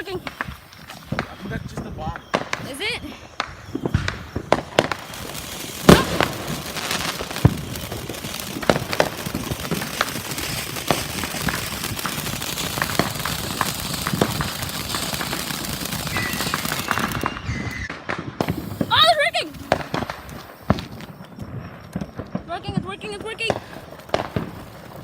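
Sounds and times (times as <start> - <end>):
firework crackling hiss: 0.0 - 25.0
firework pops and bangs: 0.0 - 25.0.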